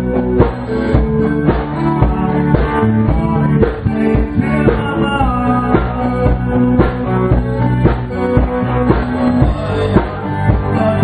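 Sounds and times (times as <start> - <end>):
amplified electric guitars: 0.0 - 11.0
drum kit hits: 0.0 - 11.0.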